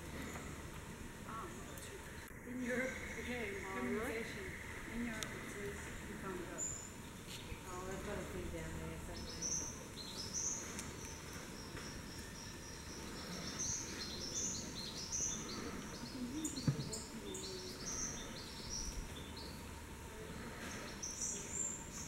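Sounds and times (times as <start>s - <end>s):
birds and insects chirping: 0.0s - 22.0s.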